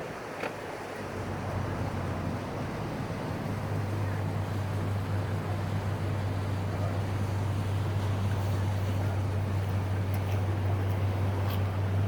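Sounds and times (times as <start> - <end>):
water noise: 0.0 - 12.0
wind: 0.0 - 12.0
low engine-like hum: 0.2 - 12.0.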